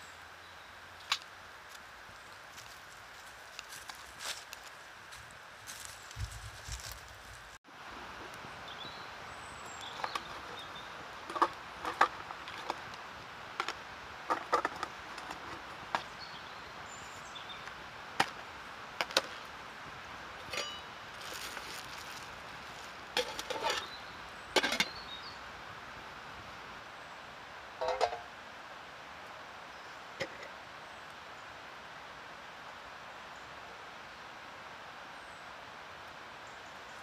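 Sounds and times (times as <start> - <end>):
background hiss: 0.0 - 37.0.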